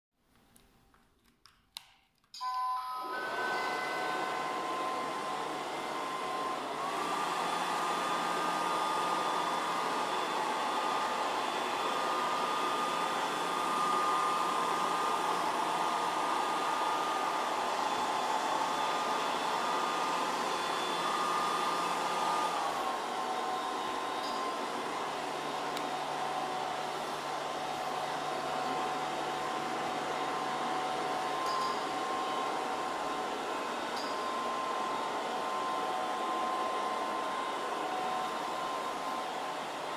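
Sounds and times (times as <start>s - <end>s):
robot vacuum cleaner whirring: 3.0s - 39.9s.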